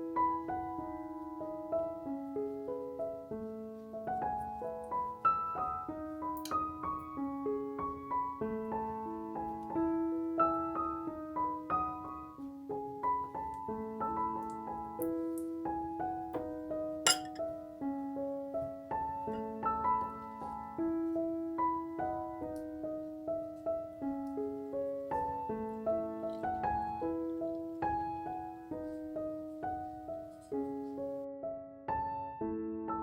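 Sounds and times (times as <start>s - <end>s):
gentle solo piano melody: 0.0s - 33.0s.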